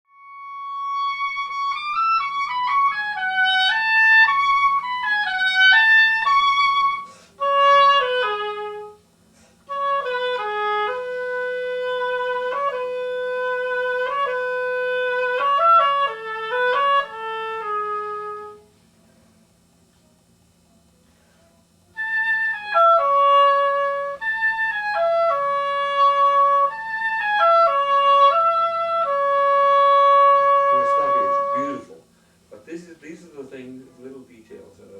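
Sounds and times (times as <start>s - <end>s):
oboe melody: 0.1s - 9.0s, 9.6s - 18.7s, 21.9s - 32.0s.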